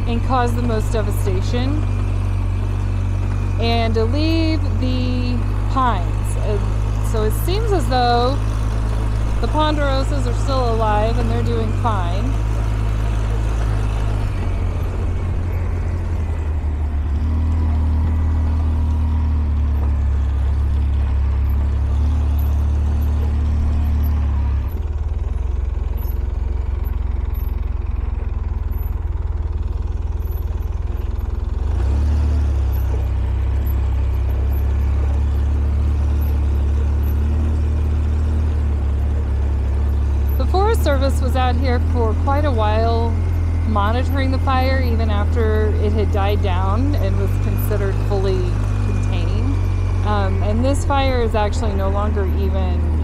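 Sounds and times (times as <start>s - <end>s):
atv engine droning: 0.0s - 53.0s.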